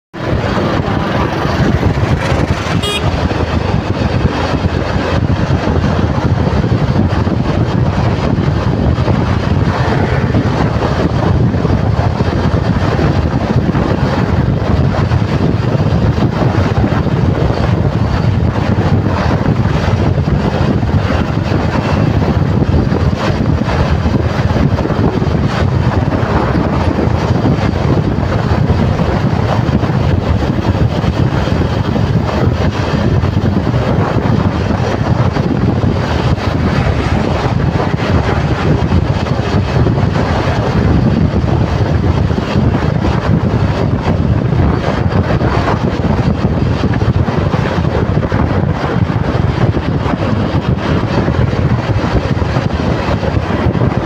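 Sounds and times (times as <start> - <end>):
highway traffic: 0.1 - 54.0
motorcycle rumble: 0.1 - 54.0
wind noise on microphone: 0.1 - 54.0.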